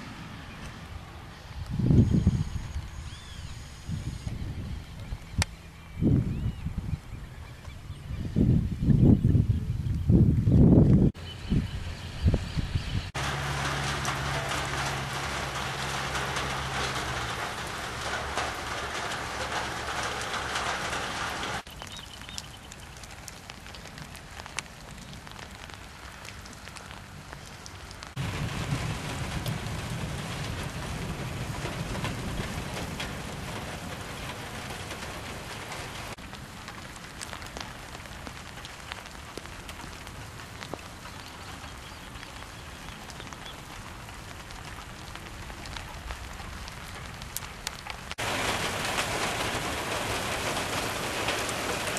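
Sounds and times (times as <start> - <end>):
rain falling: 0.0 - 6.2, 10.6 - 51.9.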